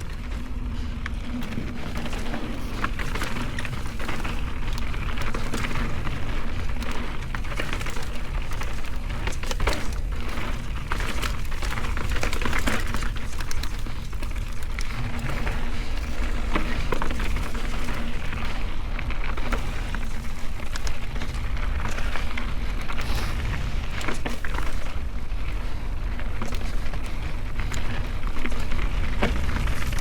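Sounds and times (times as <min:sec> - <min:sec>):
bike clicking and rattling: 0:00.0 - 0:30.0
tyres crunching over dirt and rocks: 0:00.0 - 0:30.0.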